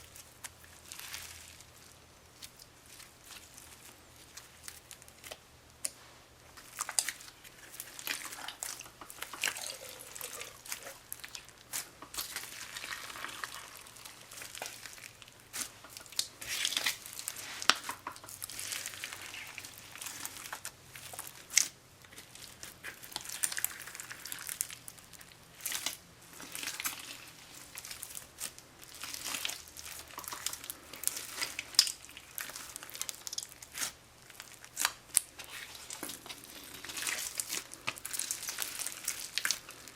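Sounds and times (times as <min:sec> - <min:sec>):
slime squelching and crackling: 0:00.0 - 0:39.9.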